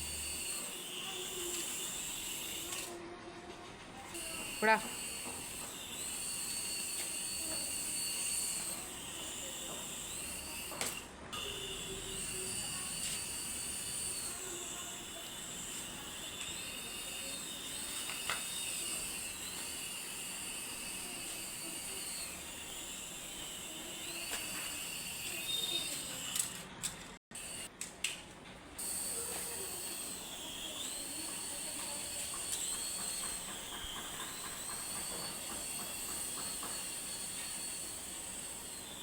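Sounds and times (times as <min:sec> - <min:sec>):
toy helicopter motor whining: 0:00.0 - 0:03.0, 0:04.0 - 0:27.9, 0:28.8 - 0:39.0.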